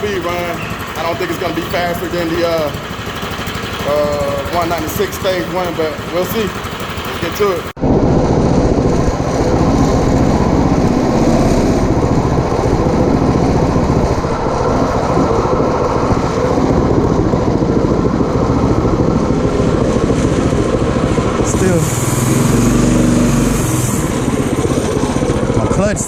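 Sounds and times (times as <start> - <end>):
mini bike engine running hard: 0.0 - 26.0.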